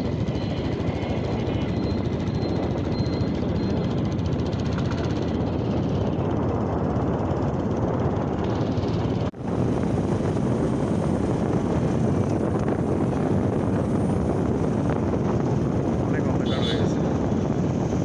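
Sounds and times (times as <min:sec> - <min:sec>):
motorcycle engine: 0:00.0 - 0:09.3, 0:10.6 - 0:18.0
wind noise: 0:00.0 - 0:18.0.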